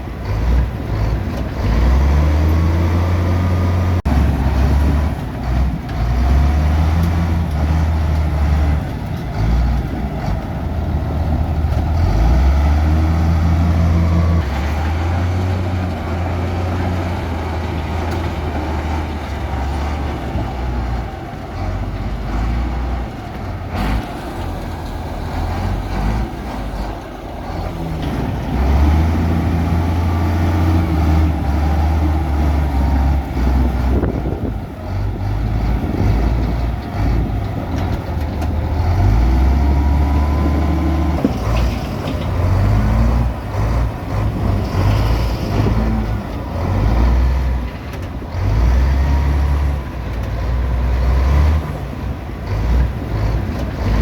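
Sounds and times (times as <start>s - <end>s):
heavy machinery diesel engine drone: 0.0s - 54.0s.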